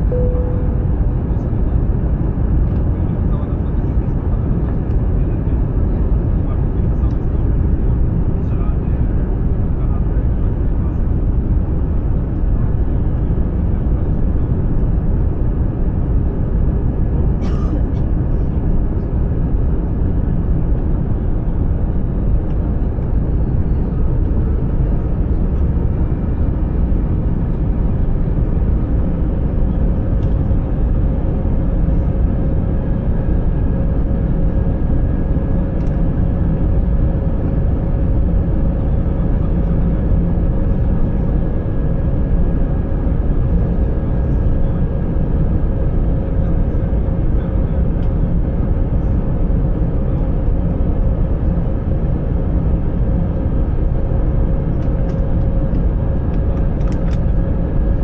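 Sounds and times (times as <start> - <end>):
faint steady whine: 0.0 - 58.0
jet engine cabin rumble: 0.0 - 58.0.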